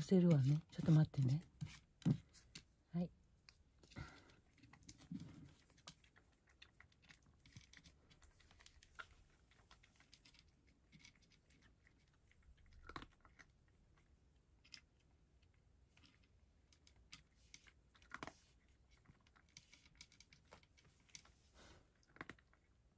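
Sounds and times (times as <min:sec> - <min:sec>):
cat crunching dry kibble: 0:00.1 - 0:22.9.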